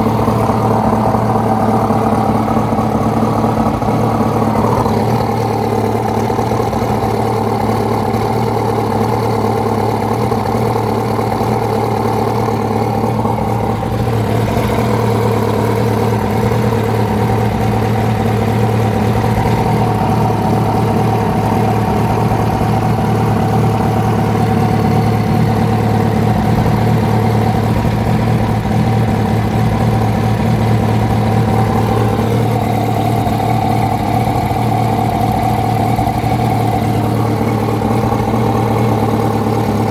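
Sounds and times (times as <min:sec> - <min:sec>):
engine knocking: 0:00.0 - 0:39.9
motorcycle engine idling: 0:00.0 - 0:39.9.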